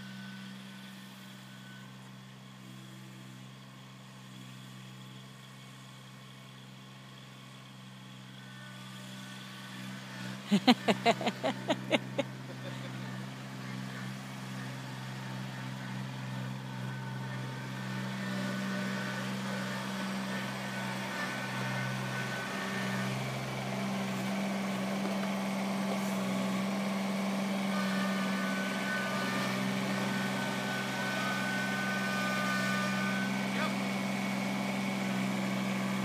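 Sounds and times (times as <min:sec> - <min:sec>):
tractor engine running: 0:00.7 - 0:36.0.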